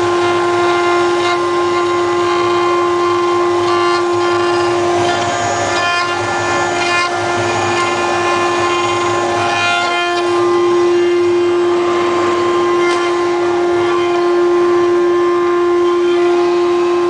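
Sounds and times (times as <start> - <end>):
cnc machine whining: 0.0 - 17.0.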